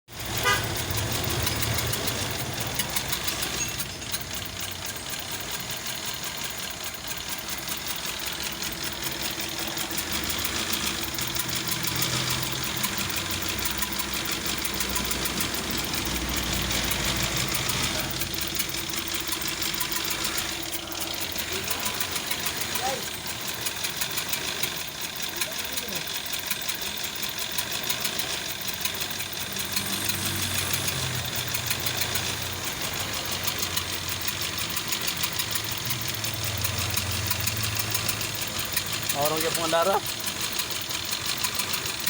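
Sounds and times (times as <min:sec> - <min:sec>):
engine misfiring and ticking: 0:00.0 - 0:42.0.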